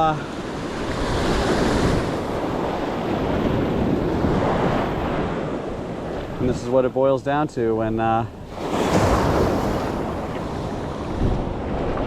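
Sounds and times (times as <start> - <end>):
ocean surf washing onto beach: 0.0 - 12.0
wind buffeting microphone: 0.0 - 12.0.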